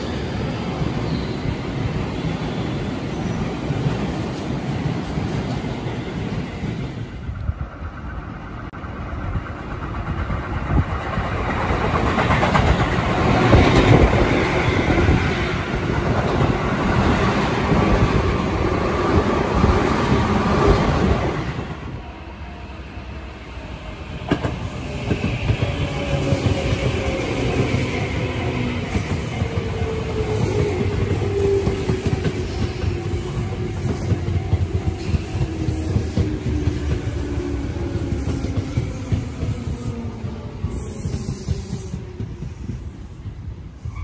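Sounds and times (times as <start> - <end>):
train pulling away: 0.0 - 43.1
train rumble and wheel clatter: 0.0 - 44.0
train running with rising whine: 0.0 - 44.0.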